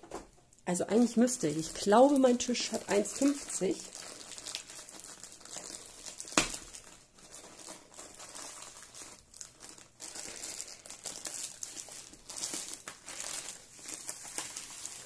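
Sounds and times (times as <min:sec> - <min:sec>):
plastic film crinkling: 0:00.9 - 0:15.0.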